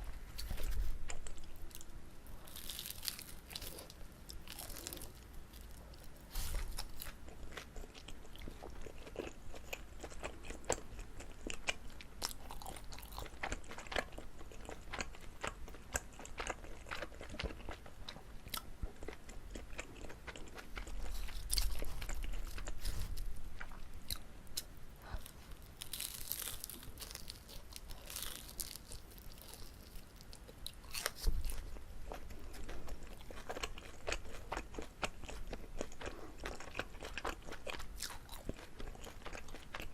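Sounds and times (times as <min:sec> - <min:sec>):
chewing rice cake: 0:00.4 - 0:39.9.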